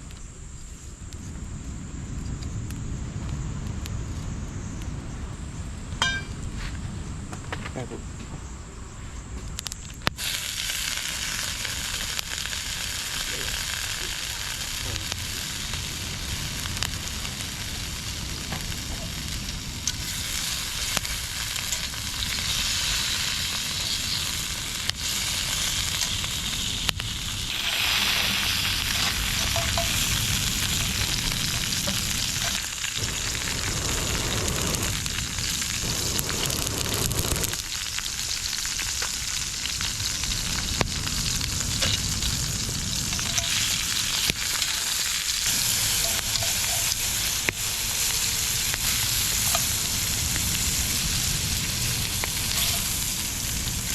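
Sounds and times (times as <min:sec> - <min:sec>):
food sizzling in a pan: 0:10.1 - 0:53.9.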